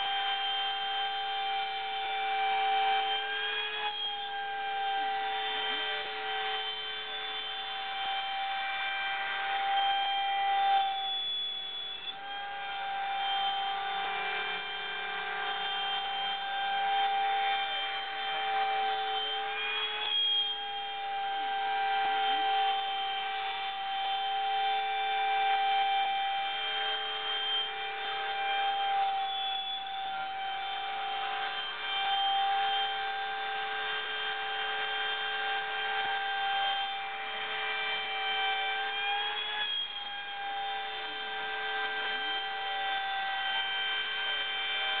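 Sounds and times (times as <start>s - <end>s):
cnc router motors whining: 0.0s - 45.0s.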